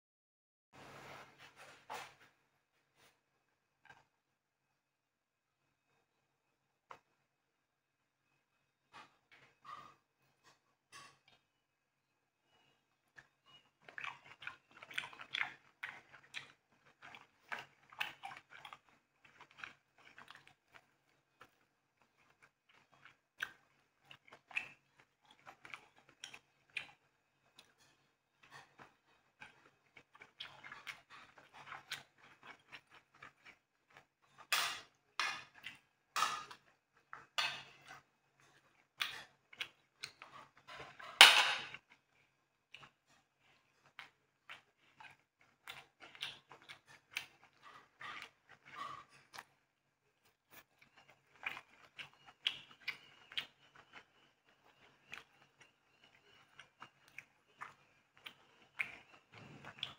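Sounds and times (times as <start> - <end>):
chewing sticky rice: 3.0 - 4.4, 8.2 - 59.9.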